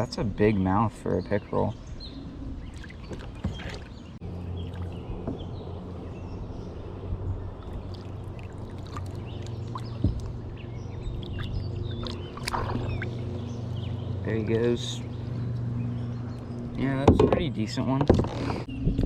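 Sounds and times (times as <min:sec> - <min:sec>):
boat motor droning: 0:00.0 - 0:18.7.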